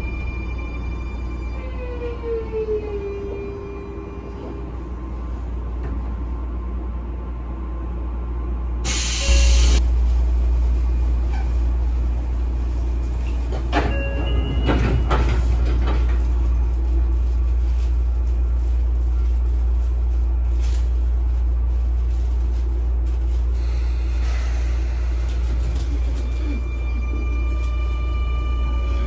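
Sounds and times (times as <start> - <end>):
train equipment low hum: 0.0 - 29.0.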